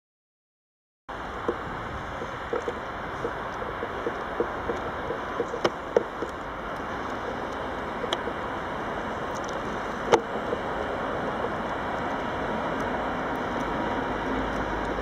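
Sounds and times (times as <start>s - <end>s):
locomotive wheels rumbling on track: 1.1s - 15.0s.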